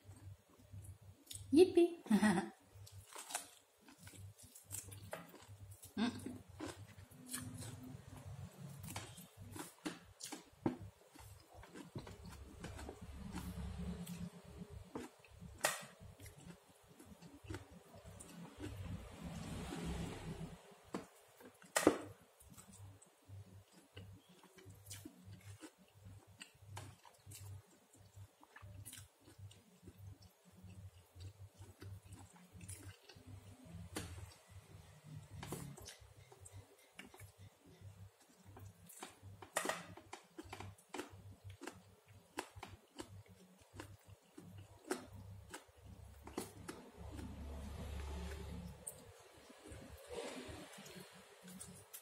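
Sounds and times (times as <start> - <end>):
person chewing with mouth clicks: 2.8 - 19.2, 22.4 - 39.3, 40.1 - 52.0.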